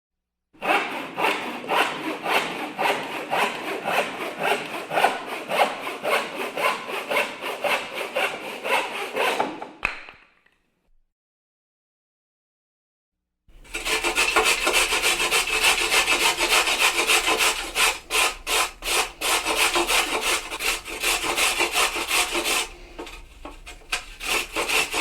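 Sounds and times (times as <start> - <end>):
hacksaw sawing: 0.6 - 9.8, 13.5 - 25.0.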